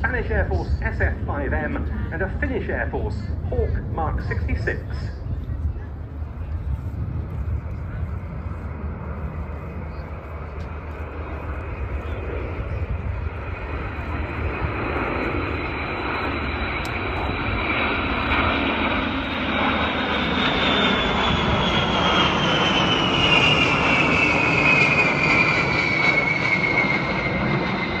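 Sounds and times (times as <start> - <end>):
jet aircraft flying past: 0.0 - 28.0.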